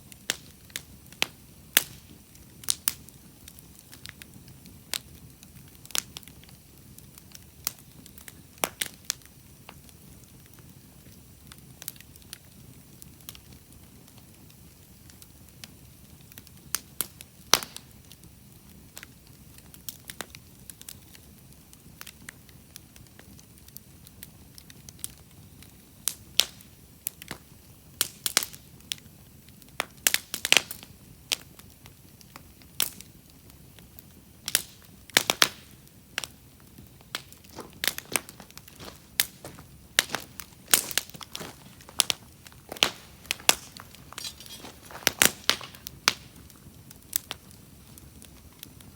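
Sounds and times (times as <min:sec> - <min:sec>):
campfire crackling and popping: 0:00.0 - 0:48.9
faint low hiss: 0:00.0 - 0:48.9.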